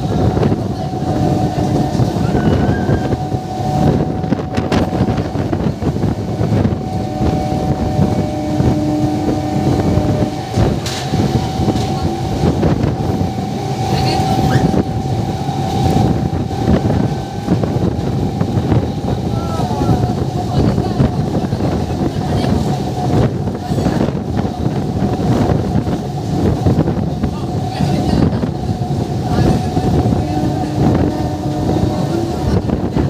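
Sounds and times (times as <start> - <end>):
steady whine: 0.0 - 33.0
train wheels rumbling on rails: 0.0 - 33.0
wind buffeting microphone: 0.0 - 33.0.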